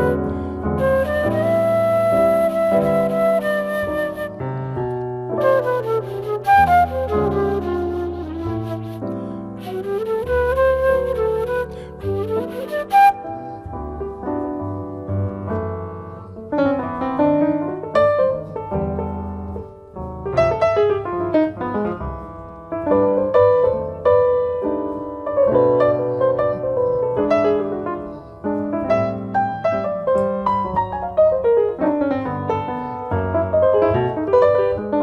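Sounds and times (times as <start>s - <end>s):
double bass: 0.0s - 35.0s
jazz piano ballad: 0.0s - 35.0s.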